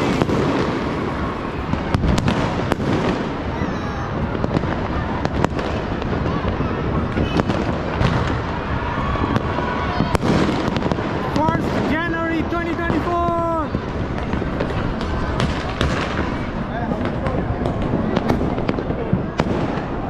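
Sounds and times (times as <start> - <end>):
firecracker bangs: 0.0 - 20.0
rumble of distant firework bursts: 0.0 - 20.0.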